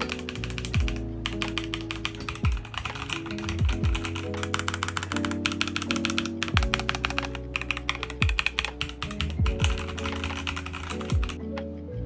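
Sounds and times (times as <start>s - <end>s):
mechanical keyboard typing: 0.0s - 11.4s
music with deep bass beat: 0.0s - 11.7s.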